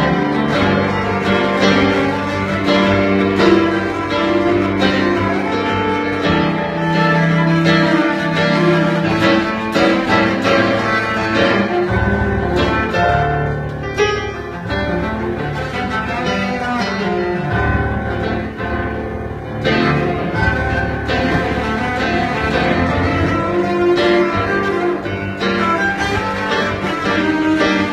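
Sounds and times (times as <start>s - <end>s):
bowed cello notes: 0.0s - 27.9s.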